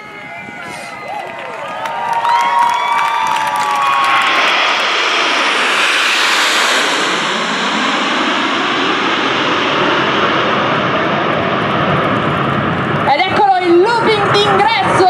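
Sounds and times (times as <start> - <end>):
jets flying past low: 2.8 - 15.0.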